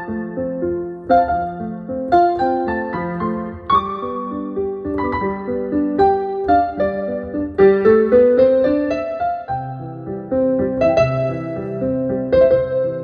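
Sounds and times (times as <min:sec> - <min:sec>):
gentle piano playing: 0:00.0 - 0:13.0.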